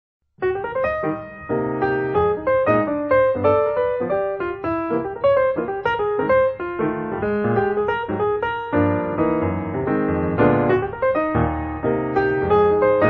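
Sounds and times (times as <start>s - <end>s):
piano music: 0.4s - 13.0s.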